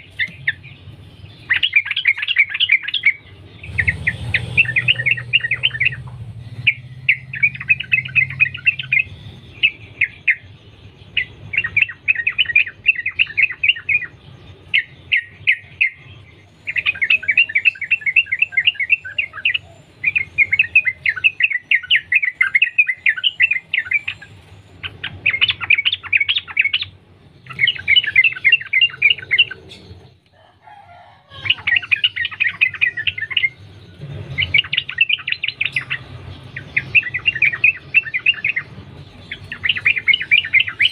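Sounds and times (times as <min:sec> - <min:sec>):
bulbul chattering song: 0:00.0 - 0:30.3, 0:31.4 - 0:40.9.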